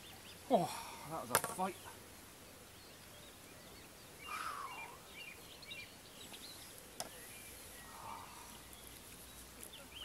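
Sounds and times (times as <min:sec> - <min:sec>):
faint outdoor noise: 0:00.0 - 0:10.0
small birds chirping: 0:00.0 - 0:10.0.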